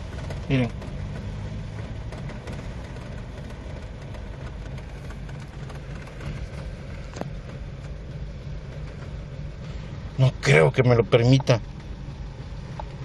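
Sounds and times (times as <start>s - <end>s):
car engine idling unsteadily: 0.0s - 13.0s.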